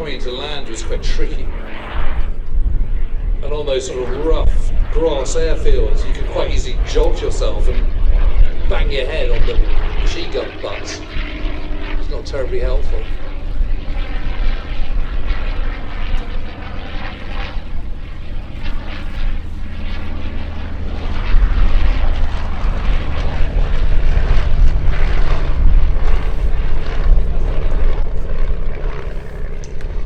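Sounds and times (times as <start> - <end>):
propeller plane engines droning: 0.0 - 30.0.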